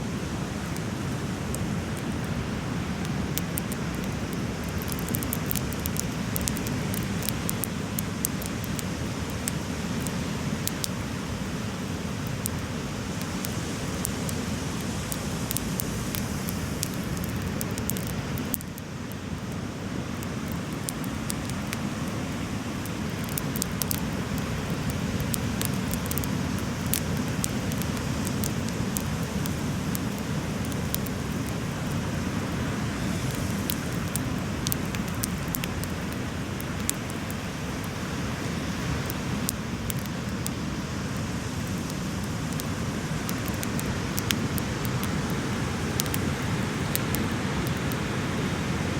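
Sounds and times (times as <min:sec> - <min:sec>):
bonfire crackling and popping: 0:00.0 - 0:48.9.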